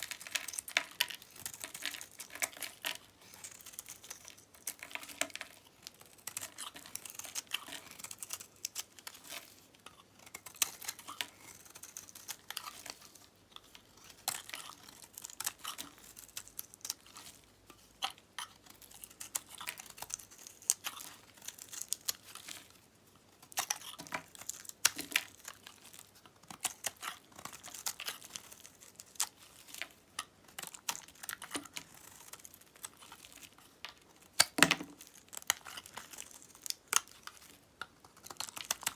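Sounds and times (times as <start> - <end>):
blade crackling through dry soap: 0.0 - 38.9.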